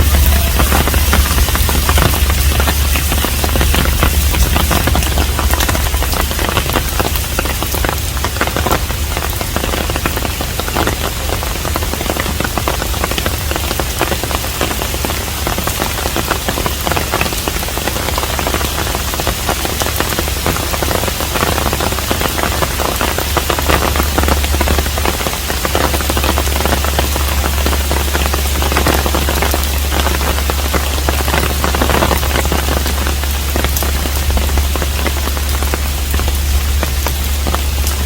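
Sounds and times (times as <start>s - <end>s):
close raindrop hits: 0.0s - 38.0s
low rumble: 0.0s - 38.0s
rain falling on a roof: 0.0s - 38.0s.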